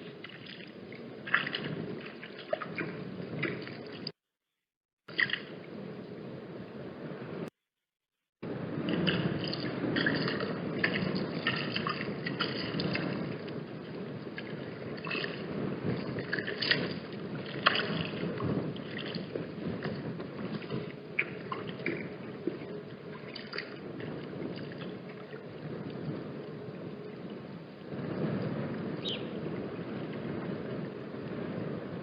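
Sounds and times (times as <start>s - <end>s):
wind buffeting microphone: 0.0s - 4.2s, 8.4s - 32.0s.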